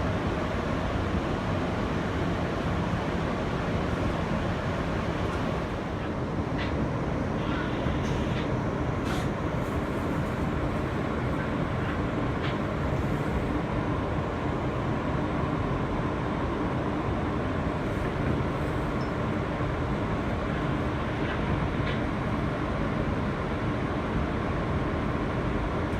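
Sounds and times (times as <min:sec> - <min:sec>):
subway car low rumble: 0:00.0 - 0:25.9.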